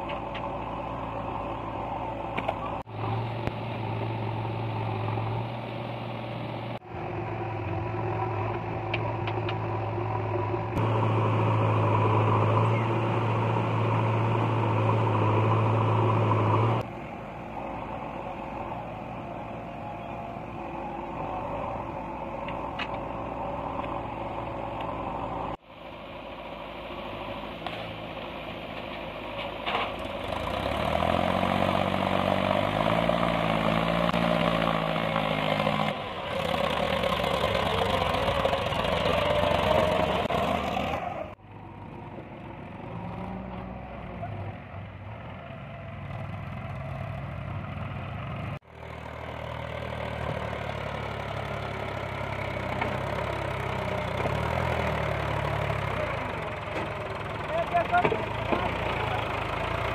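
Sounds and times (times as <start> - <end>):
diesel engines working under load: 0.0 - 59.9.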